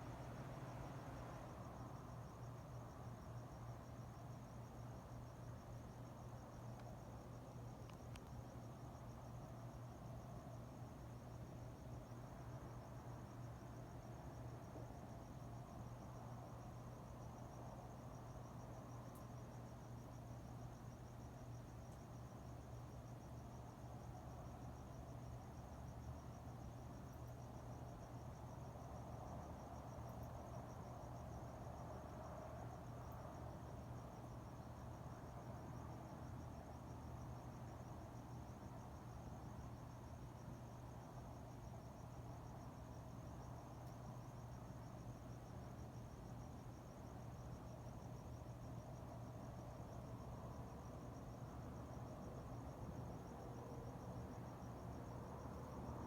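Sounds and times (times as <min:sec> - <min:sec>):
crickets chirping: 0:00.0 - 0:56.0
soft background noise: 0:00.0 - 0:56.0.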